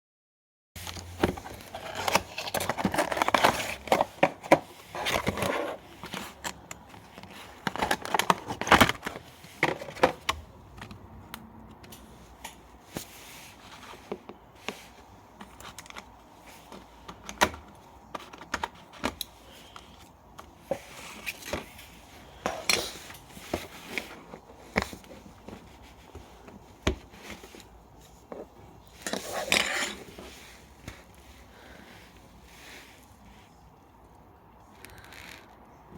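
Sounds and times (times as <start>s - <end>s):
packaging rustling and scraping: 0.8s - 11.1s, 12.0s - 33.6s.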